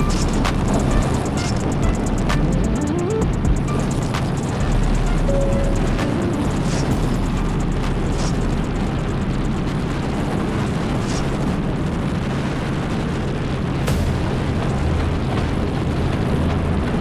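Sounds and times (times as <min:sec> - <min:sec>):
helicopter rotor and engine noise: 0:00.0 - 0:17.0
wind rush: 0:00.0 - 0:17.0.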